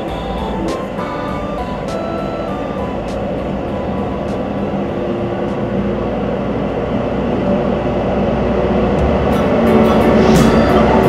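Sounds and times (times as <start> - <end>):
vehicle rumbling: 0.0 - 11.0.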